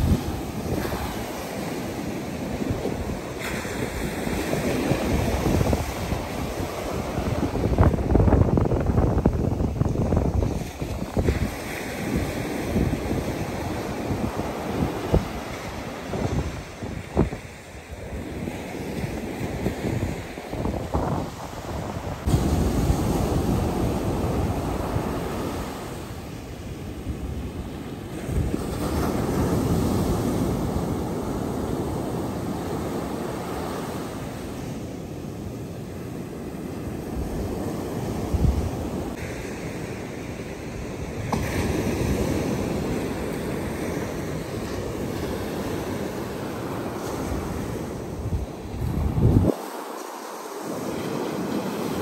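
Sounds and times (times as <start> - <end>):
wind buffeting microphone: 0.0 - 49.6
ocean surf breaking: 0.0 - 52.0.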